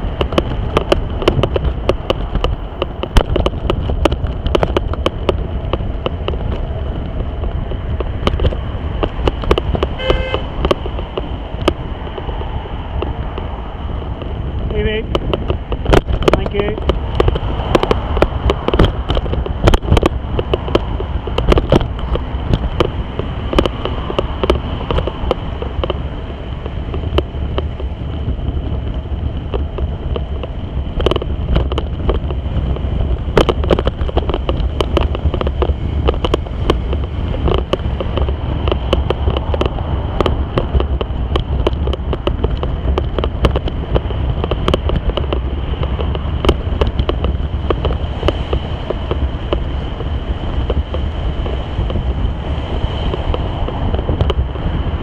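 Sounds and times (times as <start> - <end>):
sharp clicks and knocks: 0.0 - 55.0
wind rumbling on microphone: 0.0 - 55.0.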